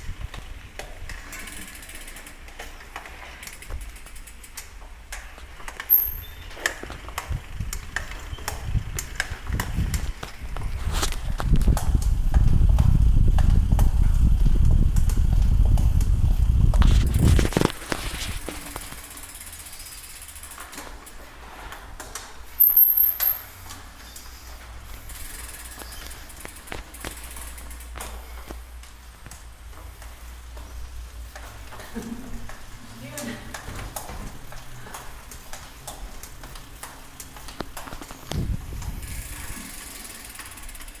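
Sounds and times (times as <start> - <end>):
bicycle clicks and knocks: 0.0 - 41.0.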